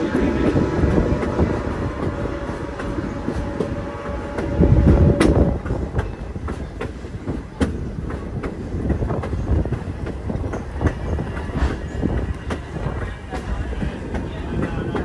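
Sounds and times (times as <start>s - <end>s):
train cars rumbling on track: 0.0s - 15.0s.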